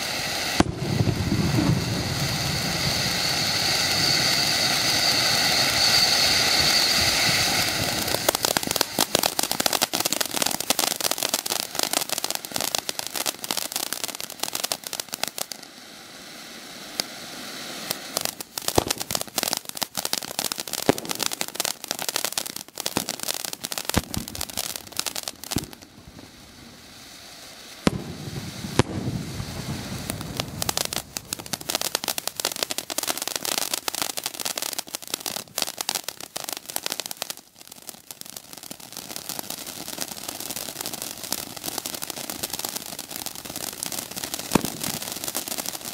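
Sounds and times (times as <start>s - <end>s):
firework crackling: 0.0s - 45.9s
ground fountain firework hissing: 0.0s - 45.9s.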